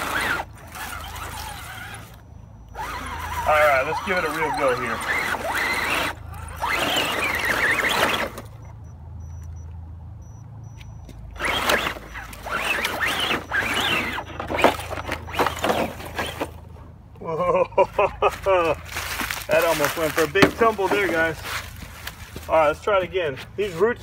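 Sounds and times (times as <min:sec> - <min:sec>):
tyres scrabbling on dirt: 0:00.0 - 0:08.7, 0:11.1 - 0:17.0, 0:17.9 - 0:24.0
electric motor and gears whining: 0:00.0 - 0:16.8, 0:18.9 - 0:22.6.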